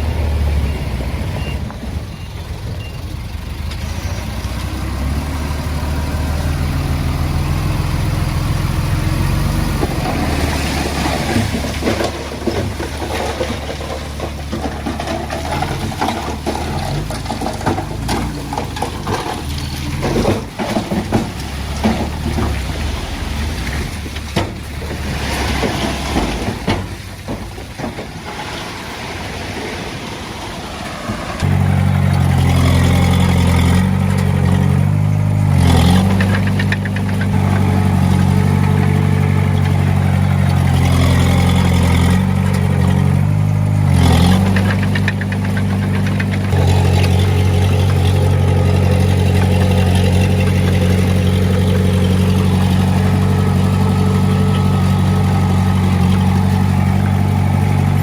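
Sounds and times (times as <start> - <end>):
diesel engine running: 0.0 - 58.0
metal clanking and scraping: 6.5 - 58.0.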